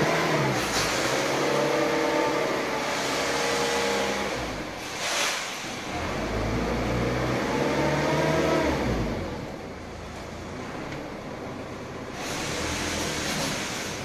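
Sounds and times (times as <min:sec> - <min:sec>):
crane engine revving: 0:00.0 - 0:09.7, 0:12.1 - 0:14.0.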